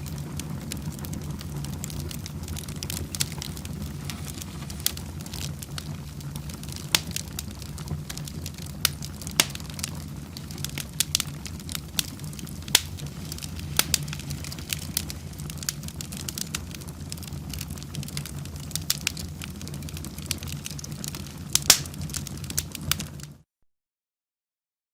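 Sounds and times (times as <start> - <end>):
fireplace fire crackling: 0.0 - 23.4
low rumble of flames: 0.0 - 23.4.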